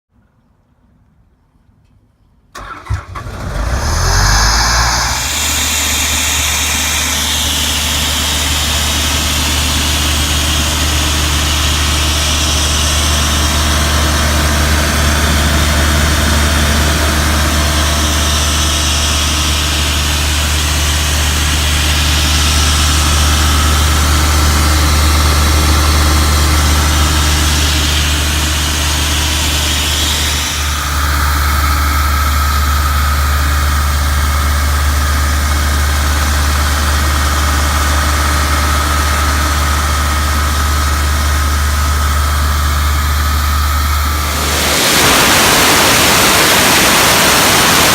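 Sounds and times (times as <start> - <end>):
diesel air compressor running: 2.6 - 47.9.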